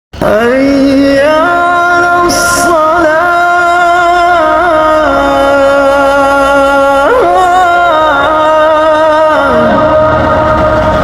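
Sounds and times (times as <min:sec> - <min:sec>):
middle eastern melody: 0:00.1 - 0:11.0.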